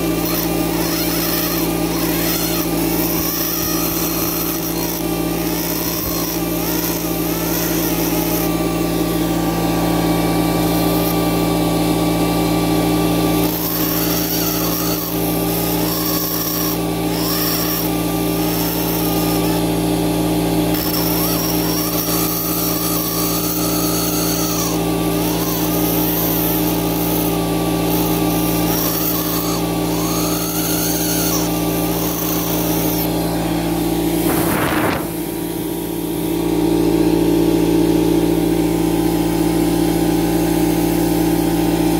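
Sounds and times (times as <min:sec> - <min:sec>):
air scribe buzzing: 0:00.0 - 0:41.0.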